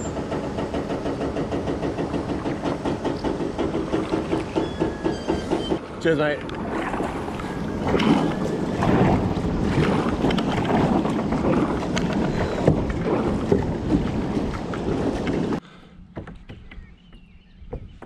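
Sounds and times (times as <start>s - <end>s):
wind buffeting microphone: 0.2s - 15.6s.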